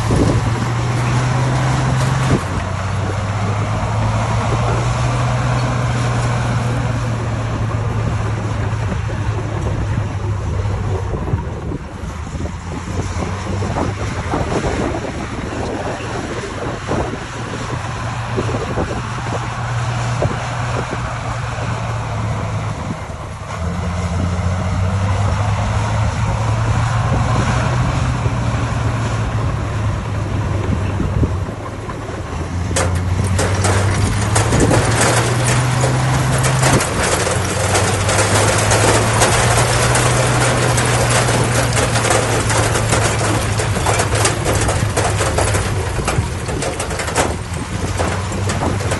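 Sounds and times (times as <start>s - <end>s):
heavy machinery diesel engine: 0.0s - 48.9s
loud rough noise: 0.0s - 48.9s.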